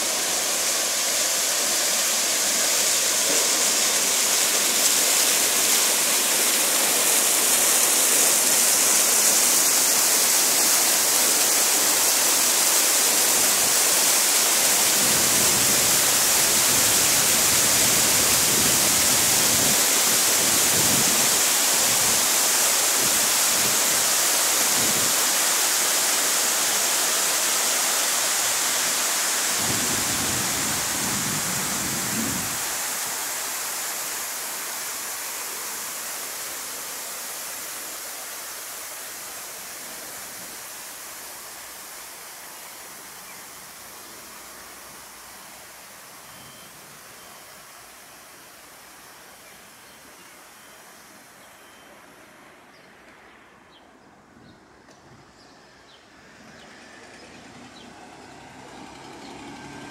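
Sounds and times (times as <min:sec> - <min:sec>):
fountain water splashing: 0:00.0 - 0:52.1, 0:56.9 - 0:59.9.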